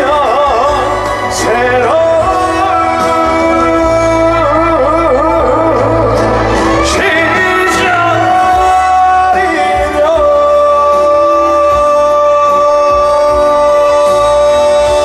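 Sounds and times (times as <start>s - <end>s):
band playing: 0.0s - 15.0s
man singing: 0.0s - 15.0s.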